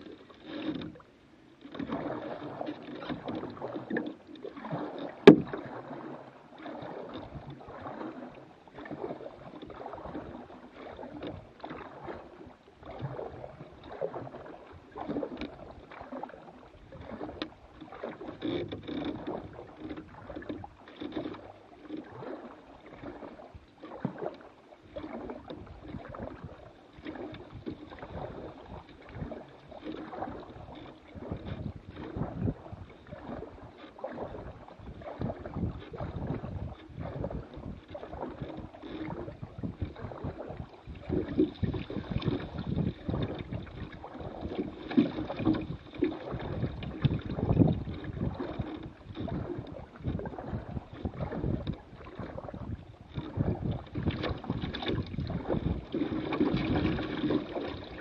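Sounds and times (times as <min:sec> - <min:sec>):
paddle strokes in water: 0:00.0 - 0:58.0.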